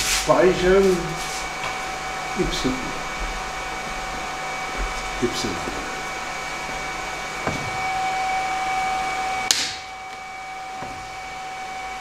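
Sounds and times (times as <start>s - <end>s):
cnc router whining: 0.2s - 12.0s.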